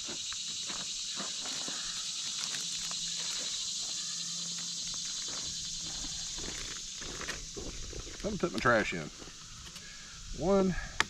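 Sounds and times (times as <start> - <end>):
insects chirping and buzzing: 0.0 - 11.0.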